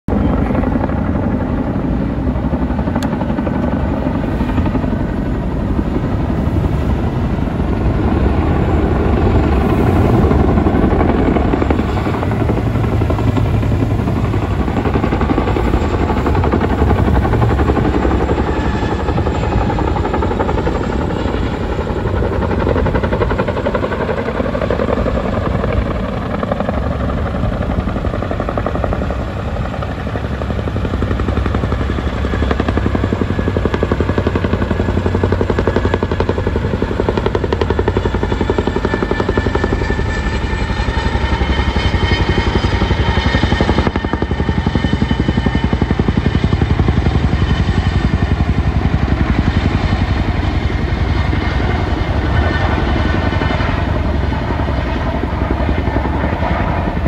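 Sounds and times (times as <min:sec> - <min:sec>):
helicopter rotors beating: 0:00.1 - 0:57.0.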